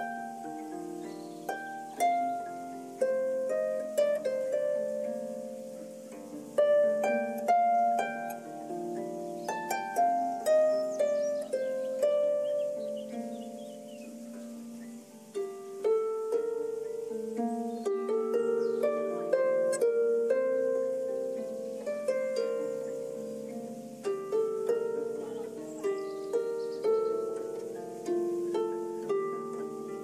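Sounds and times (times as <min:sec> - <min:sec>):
harp plucked notes: 0:00.0 - 0:30.0.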